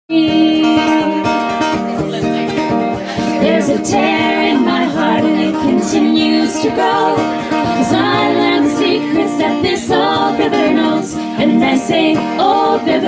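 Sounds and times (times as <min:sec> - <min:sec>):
woman singing: 0:00.1 - 0:01.5, 0:03.4 - 0:13.0
acoustic guitar playing: 0:00.1 - 0:13.0.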